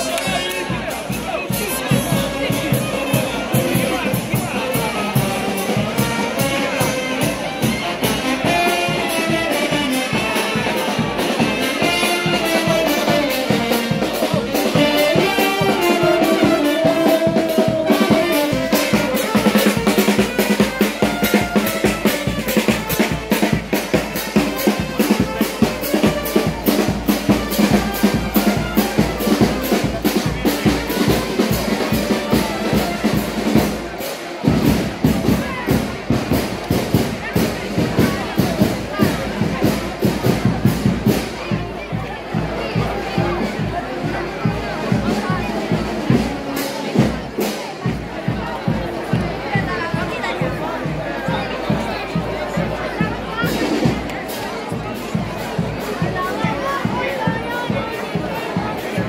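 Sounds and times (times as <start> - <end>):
brass band playing: 0.0 - 59.0
steady drum beat: 0.0 - 59.0.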